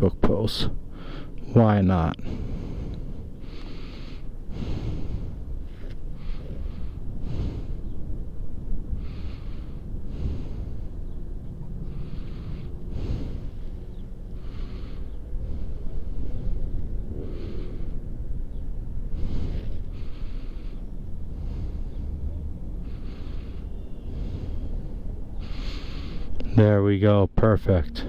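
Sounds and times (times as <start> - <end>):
steady low rumble: 0.0 - 28.0
person breathing: 0.6 - 26.6.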